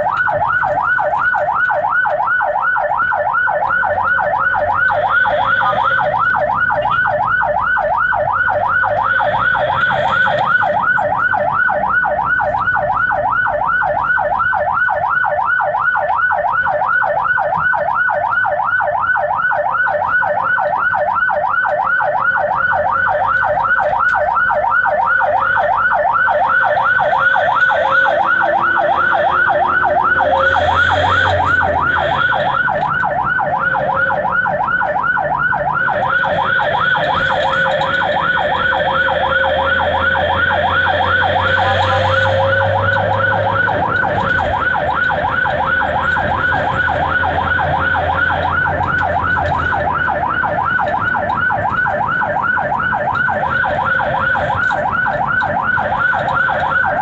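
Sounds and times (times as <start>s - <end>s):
siren yelping: 0.0s - 57.0s.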